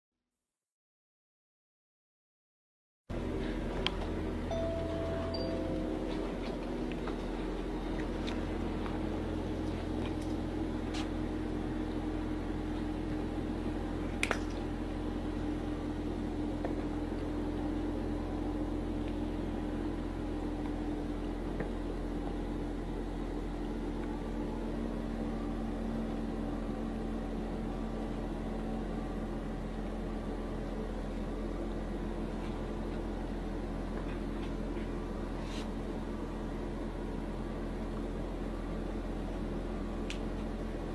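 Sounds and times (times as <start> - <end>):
low machine hum: 3.1 - 40.9.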